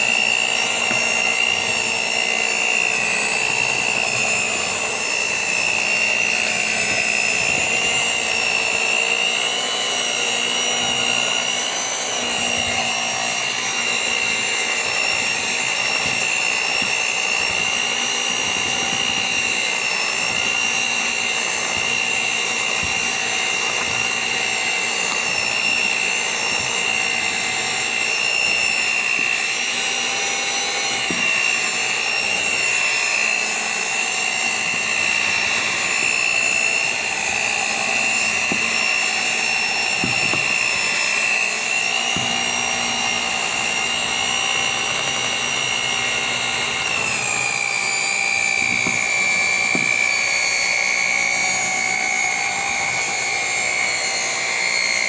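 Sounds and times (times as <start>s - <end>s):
electric mixer motor whine: 0.0s - 55.0s.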